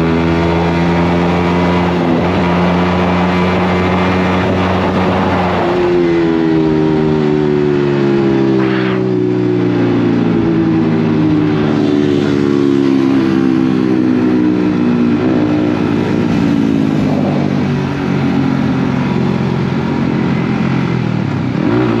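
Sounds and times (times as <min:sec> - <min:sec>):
loud motorcycle engine: 0:00.0 - 0:22.0.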